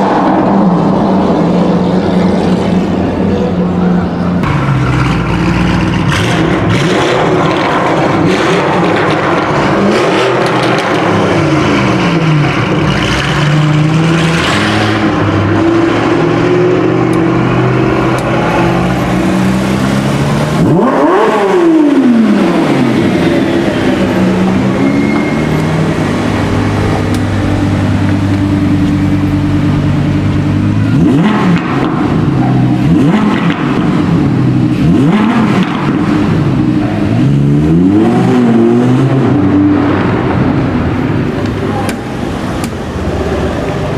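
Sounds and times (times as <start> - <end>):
car engines accelerating: 0.0 - 43.9
engine revving hard: 4.4 - 43.9.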